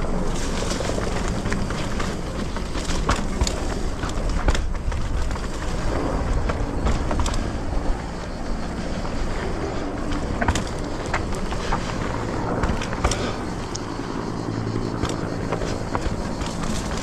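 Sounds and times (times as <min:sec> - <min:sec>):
bike tyres rattling on trail: 0:00.0 - 0:17.0
wind on microphone: 0:00.0 - 0:17.0.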